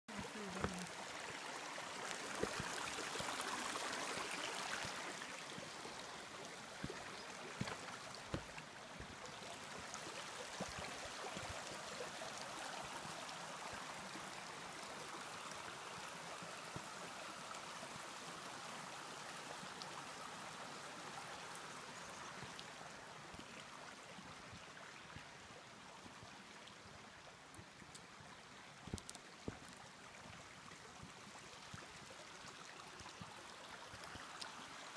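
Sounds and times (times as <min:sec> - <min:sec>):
creek rushing over stones: 0:00.1 - 0:34.9.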